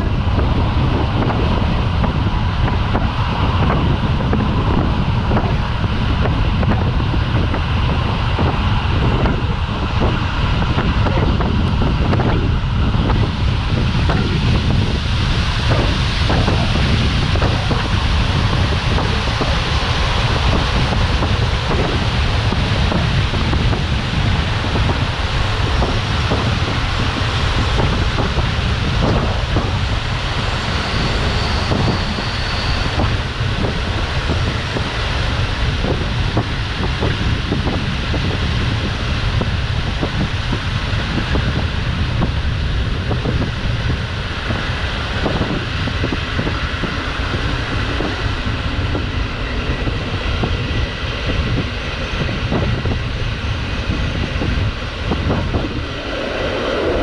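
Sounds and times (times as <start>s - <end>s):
train rumble: 0.0s - 57.0s
wind rushing past window: 0.0s - 57.0s.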